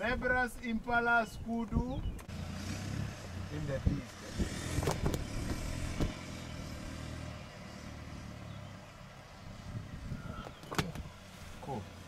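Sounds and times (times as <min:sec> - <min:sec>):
vehicle engine humming: 0:02.2 - 0:12.0.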